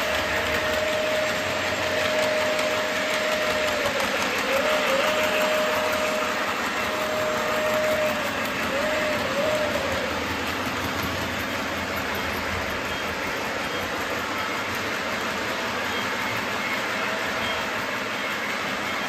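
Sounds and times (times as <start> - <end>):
model train wheels rumbling: 0.0 - 19.0
thin steady whine: 0.0 - 19.0.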